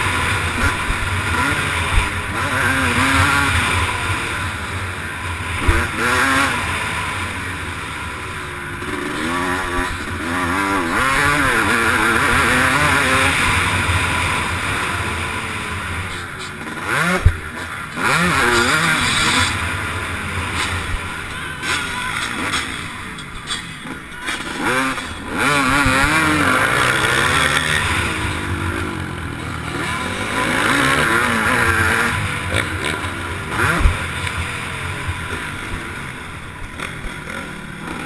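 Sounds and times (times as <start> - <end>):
motocross bike engine revving: 0.0 - 38.0.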